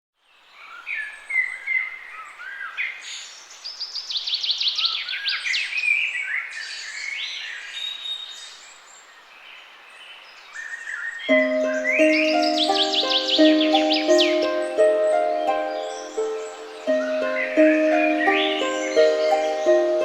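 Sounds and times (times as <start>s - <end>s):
songbirds singing and chirping: 0.2s - 20.0s.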